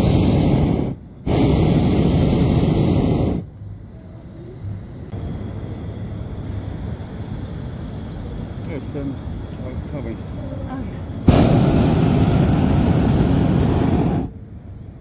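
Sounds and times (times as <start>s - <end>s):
propane burner roaring: 0.0s - 3.6s, 5.0s - 14.4s.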